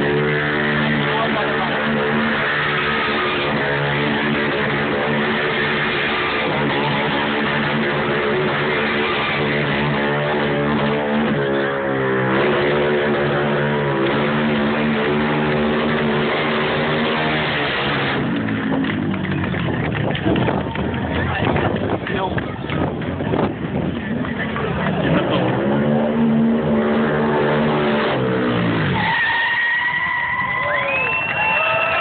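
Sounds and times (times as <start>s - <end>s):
motorcycle engine revving high: 0.0s - 29.3s.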